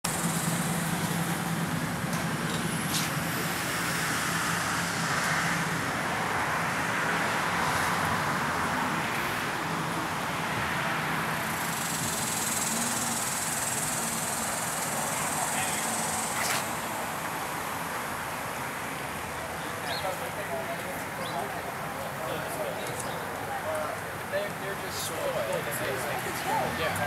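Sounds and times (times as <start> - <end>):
outdoor noise: 0.0 - 27.0
vehicle engine humming: 0.0 - 27.0.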